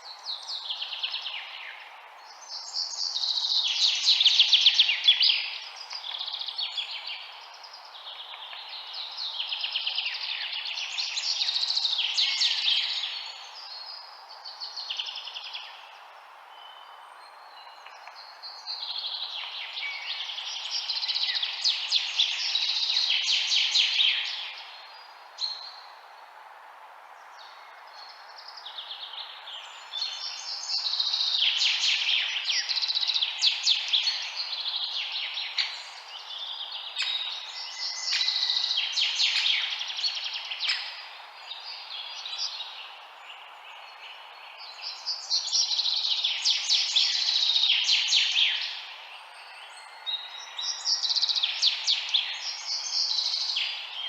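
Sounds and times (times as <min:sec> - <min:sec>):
songbirds chirping and trilling: 0:00.0 - 0:54.0
steady background hiss: 0:00.0 - 0:54.0.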